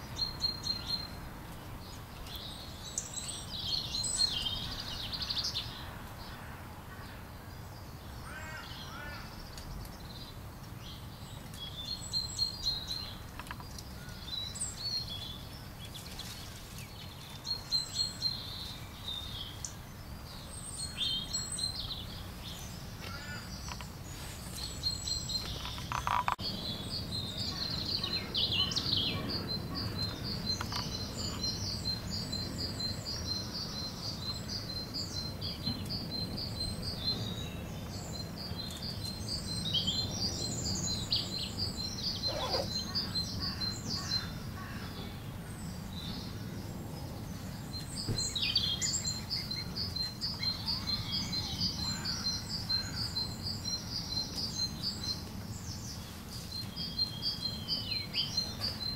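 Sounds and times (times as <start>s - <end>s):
scattered bird calls: 1.8s - 58.9s.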